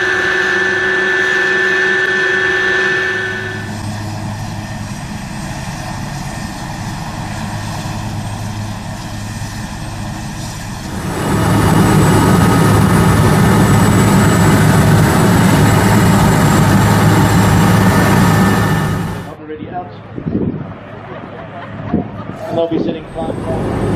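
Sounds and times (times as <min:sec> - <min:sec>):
helicopter engines and rotor: 0:00.0 - 0:19.4, 0:20.0 - 0:23.9.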